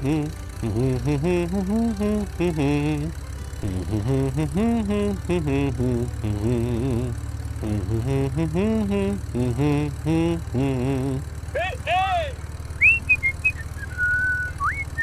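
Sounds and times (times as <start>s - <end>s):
steady low buzz: 0.0s - 15.0s.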